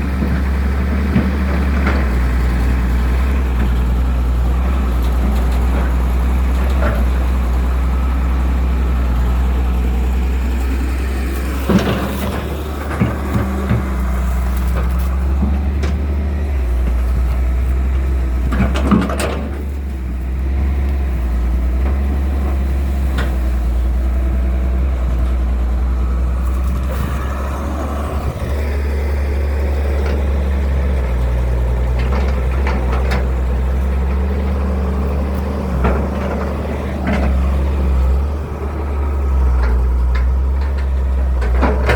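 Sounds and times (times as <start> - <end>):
excavator diesel engine droning: 0.0 - 41.9
excavator knocks and clanks: 0.0 - 41.9.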